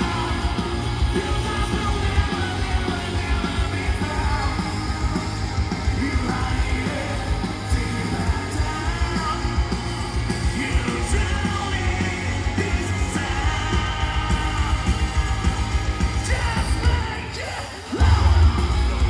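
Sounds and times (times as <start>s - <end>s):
live band through pa: 0.0s - 19.0s
sung and shouted vocals: 0.0s - 19.0s.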